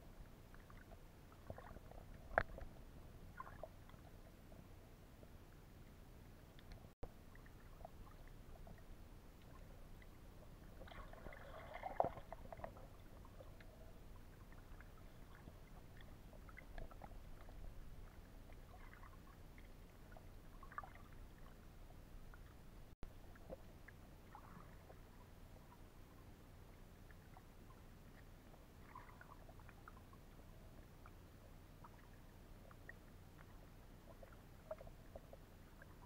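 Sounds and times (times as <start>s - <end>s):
low underwater hum: 0.0s - 36.0s
small underwater clicks and crackles: 0.0s - 36.0s.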